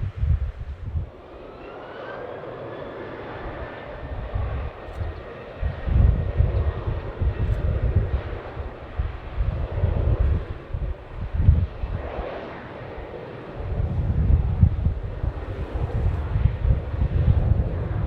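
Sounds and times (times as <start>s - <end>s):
jet airliner engines passing: 0.0s - 18.0s
wind buffeting microphone: 0.0s - 18.0s.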